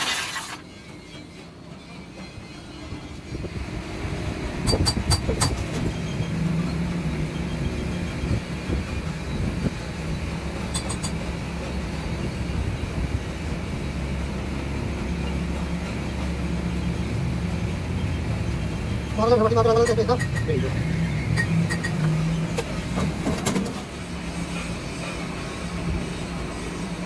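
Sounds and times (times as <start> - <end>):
low machine rumble: 0.7 - 27.0.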